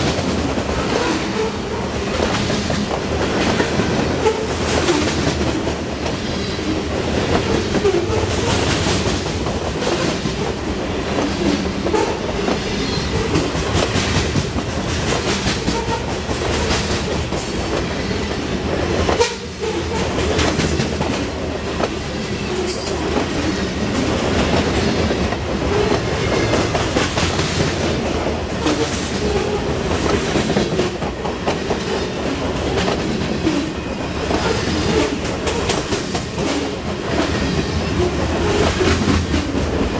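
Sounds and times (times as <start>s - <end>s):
steel wheels on rail: 0.0s - 39.9s.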